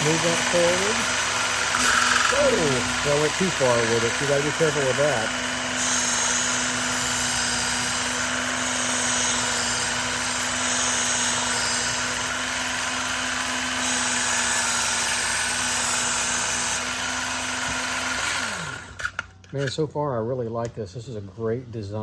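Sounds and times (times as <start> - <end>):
sharpener motor humming: 0.0 - 19.3.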